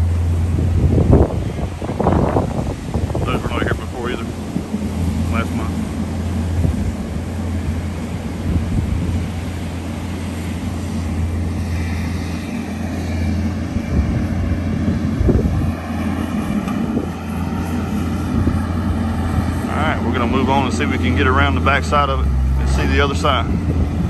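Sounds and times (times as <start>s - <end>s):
engine drone: 0.0s - 24.0s
high multi-tone whine: 0.0s - 24.0s.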